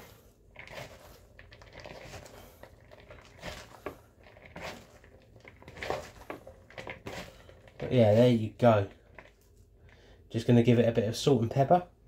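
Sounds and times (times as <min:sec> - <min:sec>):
rustling and crunching vegetables: 0:00.0 - 0:10.2.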